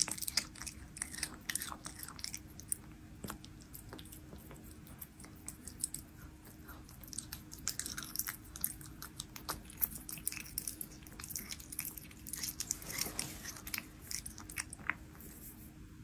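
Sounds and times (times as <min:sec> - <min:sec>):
cat chewing and licking lips: 0:00.0 - 0:15.8.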